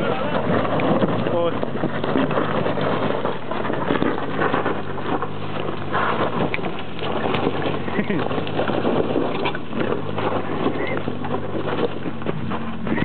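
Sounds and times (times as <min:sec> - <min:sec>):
engine pulling under load: 0:00.0 - 0:13.0
tyres crunching over gravel: 0:00.0 - 0:13.0.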